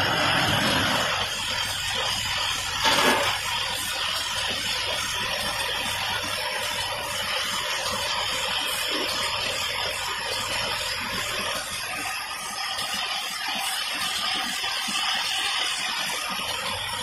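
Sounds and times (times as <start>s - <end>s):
assembly machine hissing: 0.0s - 17.0s.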